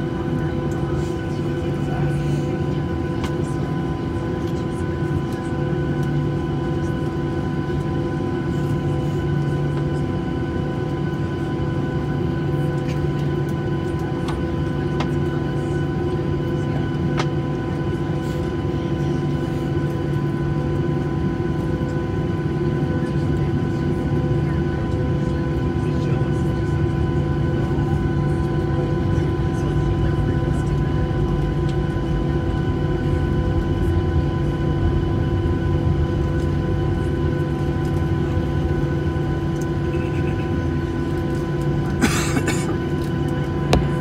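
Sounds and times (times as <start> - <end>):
jet engines idling: 0.0 - 44.0.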